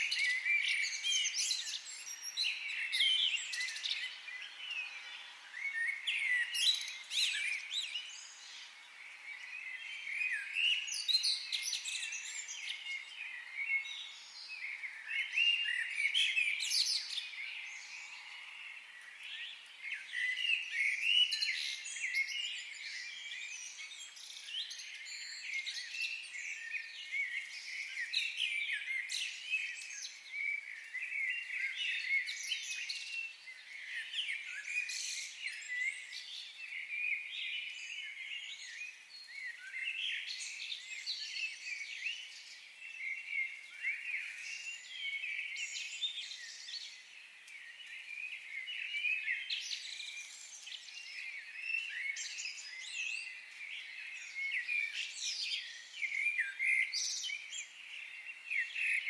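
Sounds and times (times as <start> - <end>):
faint steady hiss: 0.0 - 58.8
songbirds chirping and trilling: 0.0 - 59.0.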